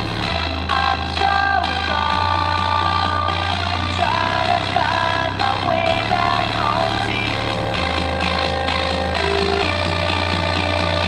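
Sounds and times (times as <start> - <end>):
bass-heavy music through speakers: 0.0 - 11.0.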